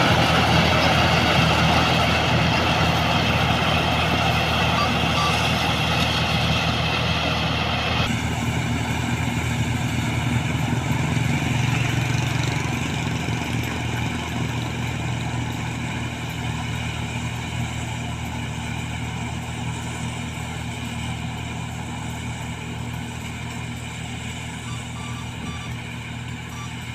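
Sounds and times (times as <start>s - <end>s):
combine harvester diesel engine: 0.0s - 26.9s.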